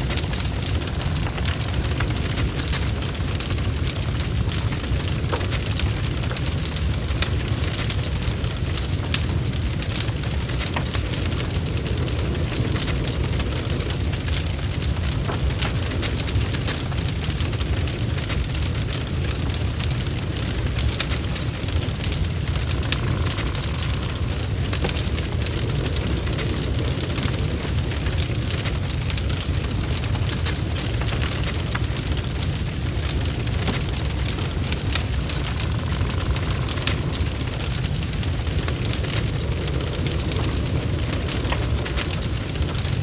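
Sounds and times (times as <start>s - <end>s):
fire snaps and pops: 0.0s - 43.0s
low rumble of flames: 0.0s - 43.0s.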